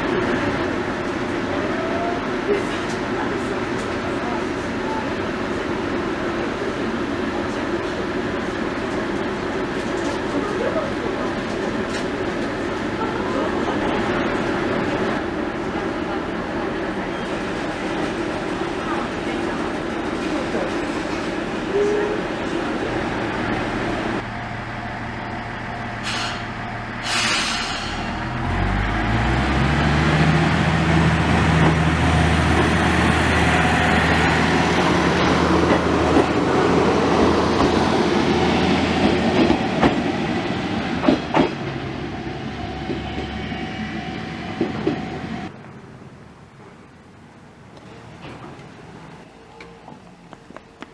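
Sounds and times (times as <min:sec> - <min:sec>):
diesel railcar engine: 0:00.0 - 0:50.9
train rolling rumble: 0:00.0 - 0:50.9.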